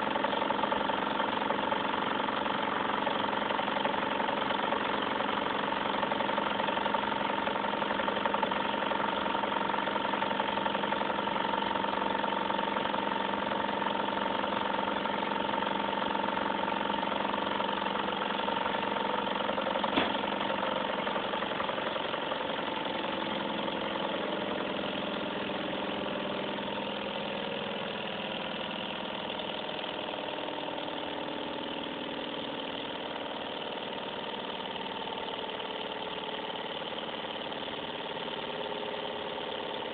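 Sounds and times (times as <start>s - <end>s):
model engine humming: 0.0s - 39.9s.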